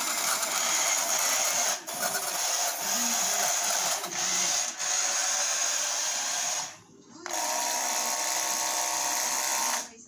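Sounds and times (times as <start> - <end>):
toy car motor whirring: 0.0 - 10.0.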